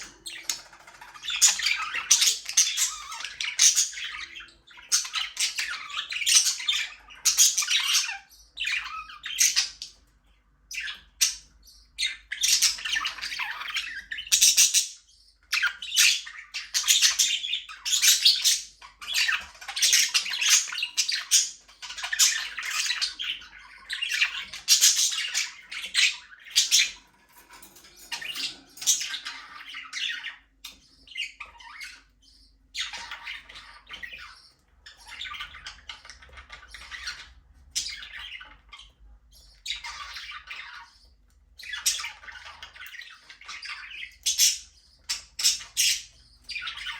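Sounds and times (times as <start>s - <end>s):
budgerigars chattering and squawking: 0.0s - 46.9s.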